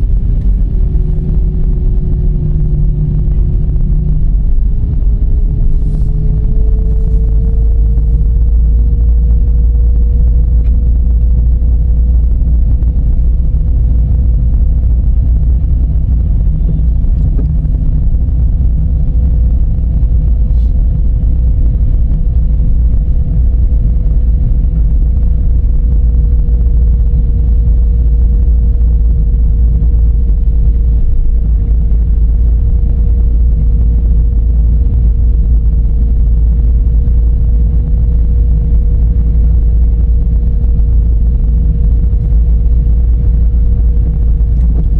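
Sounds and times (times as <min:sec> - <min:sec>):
car road and engine rumble: 0:00.0 - 0:44.9
constant hum: 0:00.0 - 0:44.9.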